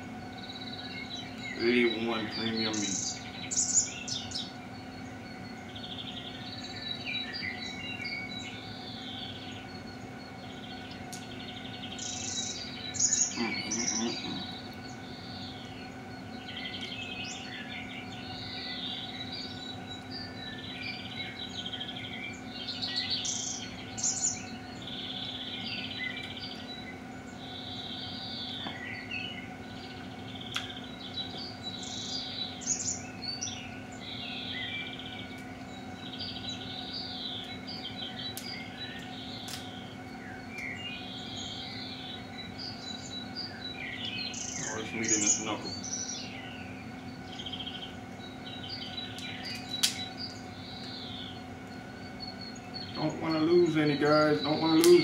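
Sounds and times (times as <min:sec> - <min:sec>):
songbirds chirping and trilling: 0:00.0 - 0:55.0
steady low hum: 0:00.0 - 0:55.0.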